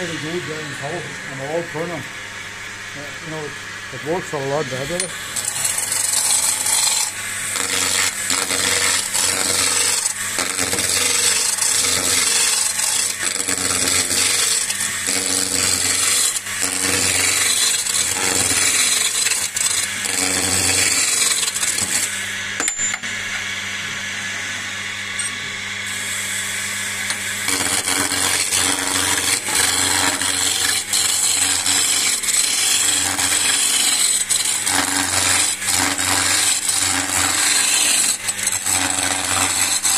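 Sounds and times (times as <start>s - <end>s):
chisel cutting wood on lathe: 0.0s - 2.1s, 3.0s - 22.3s, 24.2s - 39.9s
lathe motor humming: 0.0s - 39.9s.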